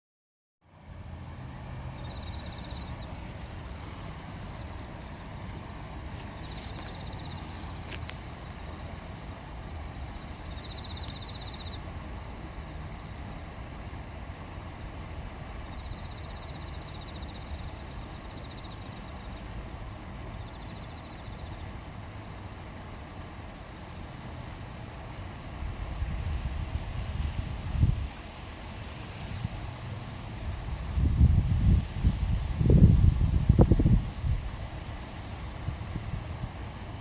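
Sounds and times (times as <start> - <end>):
stream flowing: 0.7 - 37.0.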